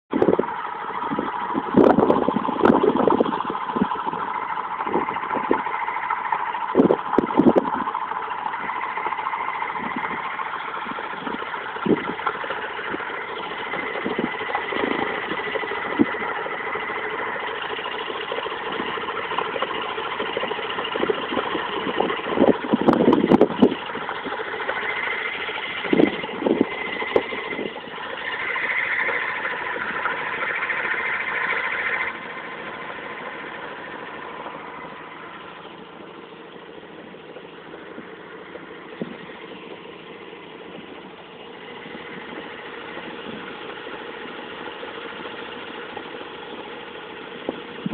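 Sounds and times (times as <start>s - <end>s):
rotary engine running: 0.1s - 47.9s
sharp engine knocks: 0.1s - 47.9s.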